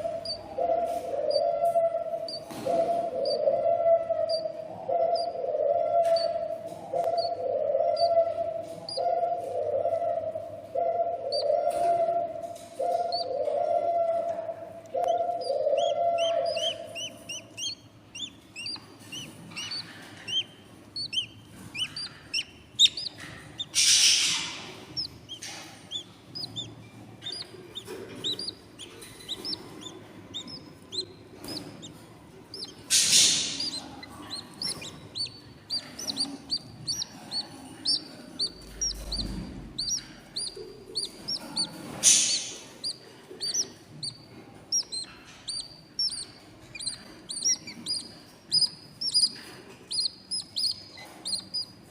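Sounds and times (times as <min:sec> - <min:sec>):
nestlings cheeping: 0:00.0 - 0:09.4, 0:10.9 - 0:51.9
raspy bird calls: 0:00.0 - 0:51.9.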